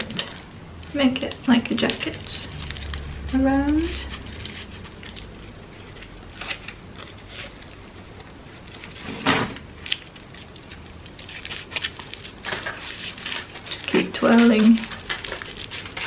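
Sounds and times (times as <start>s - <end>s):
crepe paper crinkling: 0.0s - 16.0s.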